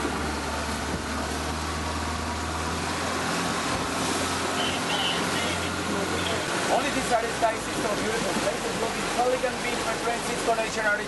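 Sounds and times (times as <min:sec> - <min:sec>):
boat motor humming: 0:00.0 - 0:11.0
water rushing: 0:00.0 - 0:11.0
wind: 0:00.0 - 0:11.0.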